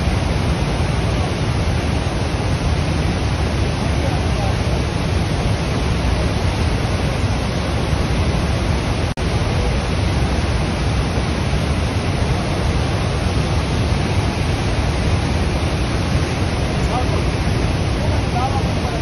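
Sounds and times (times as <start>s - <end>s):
river rushing over boulders: 0.0s - 19.0s.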